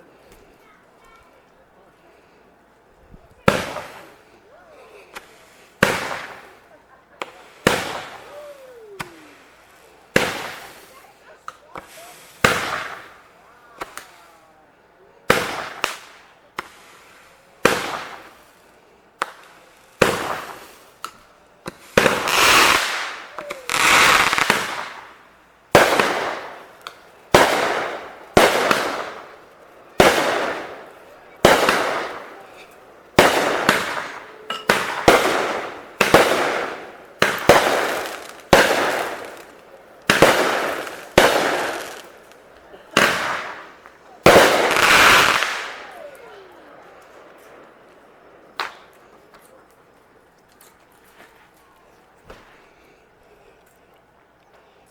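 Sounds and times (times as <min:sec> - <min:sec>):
fireworks bangs and crackle: 0:03.2 - 0:14.4, 0:15.2 - 0:52.9.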